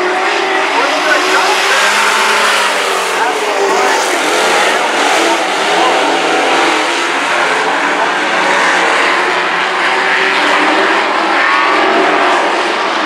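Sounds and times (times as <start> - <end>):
race truck engines running hard: 0.0 - 13.0.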